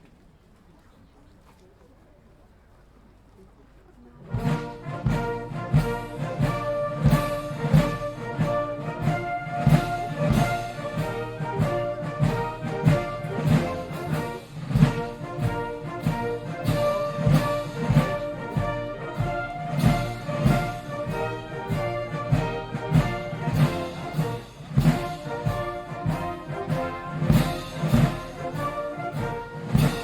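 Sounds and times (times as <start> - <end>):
brass-led orchestral march music: 4.2 - 30.0.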